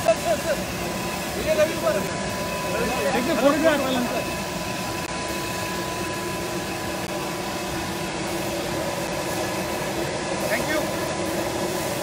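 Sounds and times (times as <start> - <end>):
airport machinery drone: 0.0 - 12.0
thin steady whine: 0.0 - 12.0.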